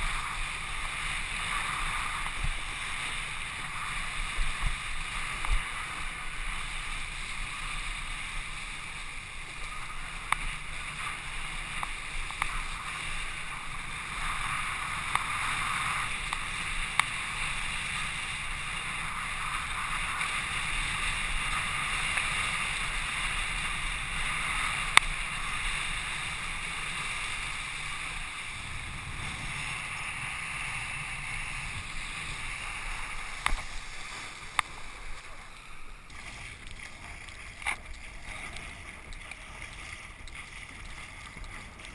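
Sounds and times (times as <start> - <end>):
rush of water and wind: 0.0 - 41.9.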